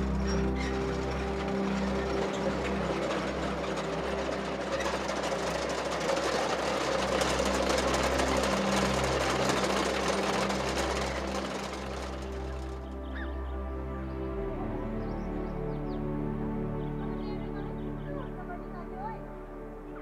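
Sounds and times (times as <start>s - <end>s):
prayer wheels rattling and clicking: 0.0s - 19.4s.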